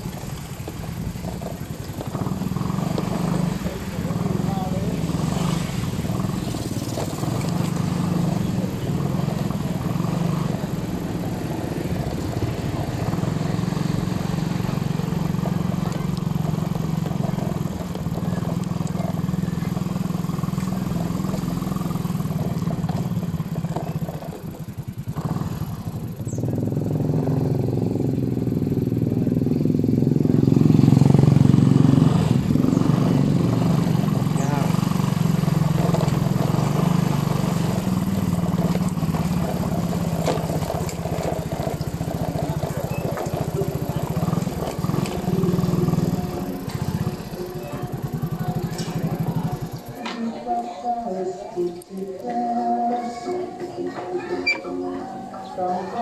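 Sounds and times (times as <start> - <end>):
vehicle engine running: 0.0 - 50.1.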